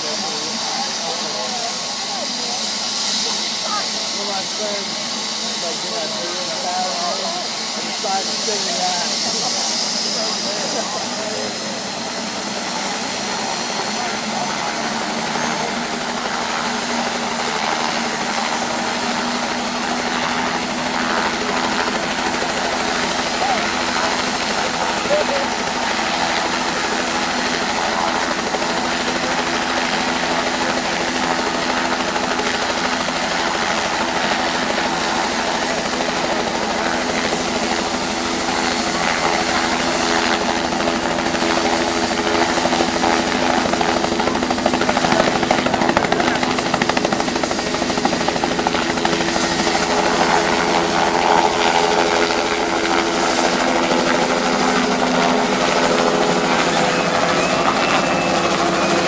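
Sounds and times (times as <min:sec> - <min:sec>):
helicopter engine drone: 0:00.0 - 0:59.0
high turbine whine: 0:00.0 - 0:59.0.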